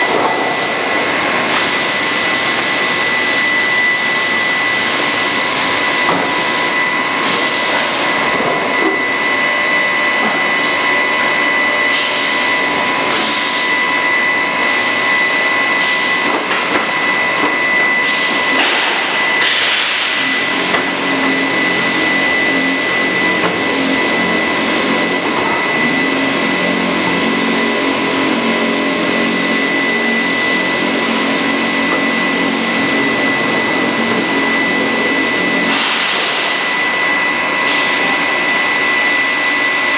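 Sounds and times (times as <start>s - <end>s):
high whine: 0.0s - 39.9s
machinery running loudly: 0.0s - 39.9s.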